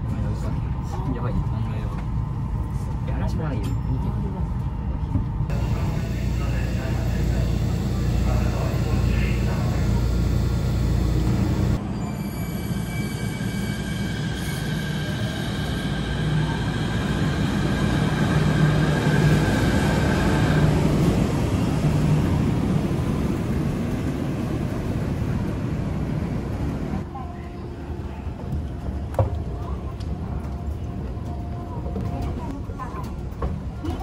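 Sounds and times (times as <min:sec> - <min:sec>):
monorail train whine: 0:00.0 - 0:33.9.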